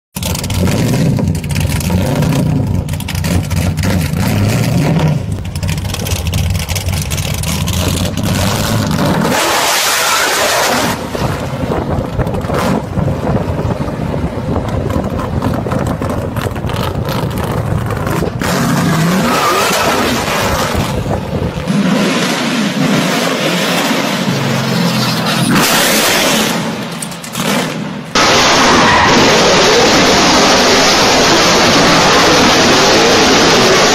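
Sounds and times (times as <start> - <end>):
car engine accelerating: 0.2 - 33.9.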